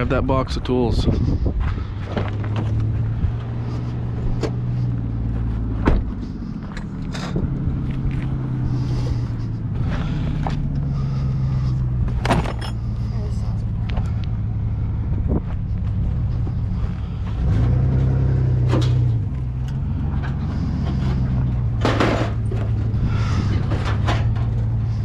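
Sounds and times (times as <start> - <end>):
car engine humming: 0.0 - 25.0.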